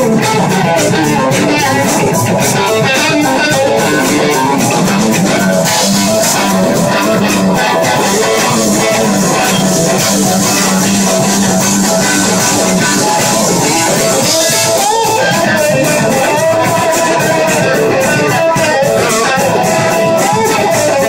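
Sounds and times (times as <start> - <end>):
drum cymbal beat: 0.0 - 21.0
electric guitar solo: 0.0 - 21.0
live rock band playing: 0.0 - 21.0.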